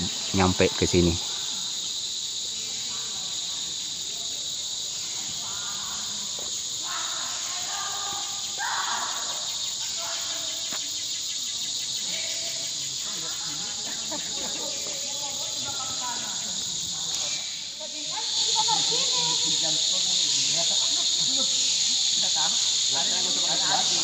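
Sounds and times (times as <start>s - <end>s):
insects chorus shrill drone: 0.0s - 24.0s.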